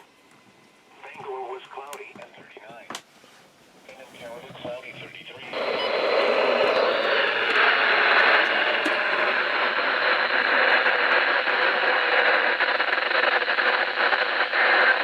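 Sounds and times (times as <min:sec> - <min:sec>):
radio static hiss with crackling: 0:00.0 - 0:15.0.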